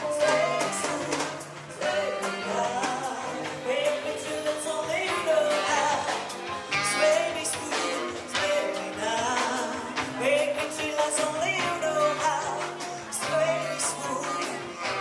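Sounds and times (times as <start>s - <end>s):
rock and roll song: 0.0s - 15.0s.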